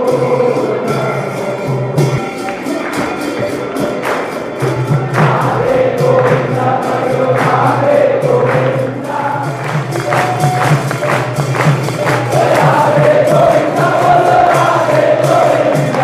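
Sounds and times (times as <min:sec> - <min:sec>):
jingling percussion: 0:00.0 - 0:16.0
voices singing: 0:00.0 - 0:16.0.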